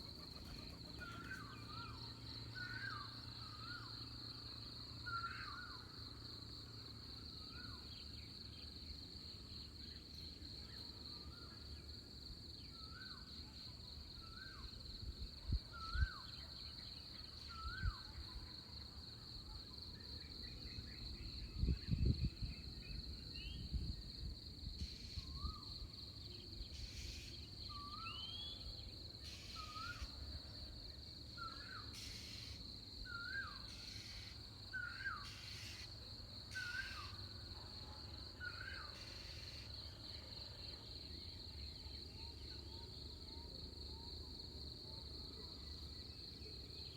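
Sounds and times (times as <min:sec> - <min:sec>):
high-pitched insect trill: 0:00.0 - 0:37.4, 0:38.3 - 0:46.9.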